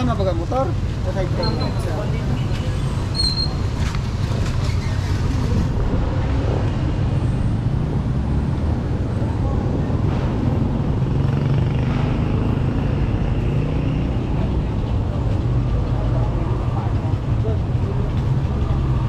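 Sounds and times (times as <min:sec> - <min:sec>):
vehicle engines rumbling: 0:00.0 - 0:19.0.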